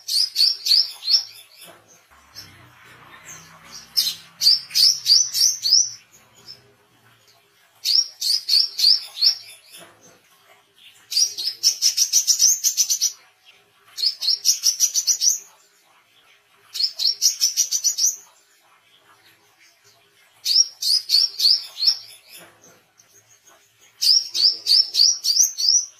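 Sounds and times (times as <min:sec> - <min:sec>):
bird chirping: 0:00.0 - 0:25.9.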